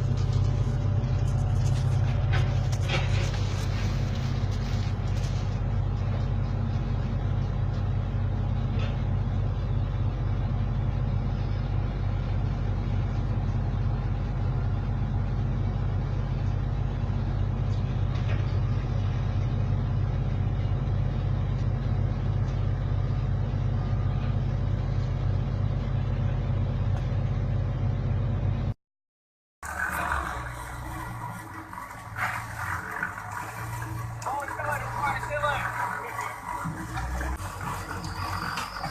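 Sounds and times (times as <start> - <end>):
diesel engine droning: 0.0 - 28.8, 29.6 - 38.9.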